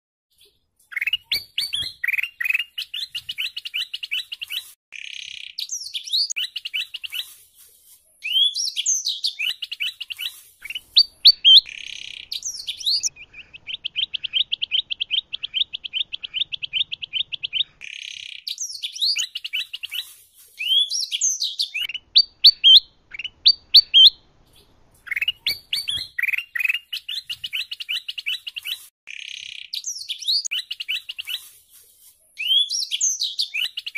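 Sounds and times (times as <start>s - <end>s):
songbirds singing: 0.4s - 7.4s, 8.1s - 33.9s.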